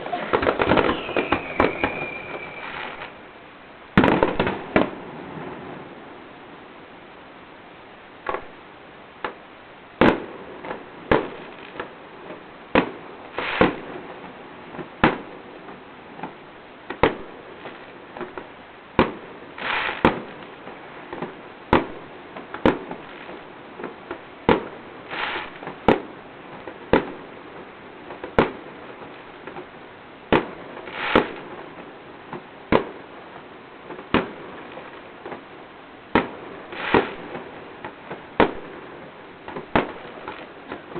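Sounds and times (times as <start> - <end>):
fireworks bangs: 0.0 - 3.2, 4.0 - 5.9, 10.0 - 40.9
crackling firework bursts: 0.0 - 6.2, 8.2 - 8.6, 9.2 - 40.9.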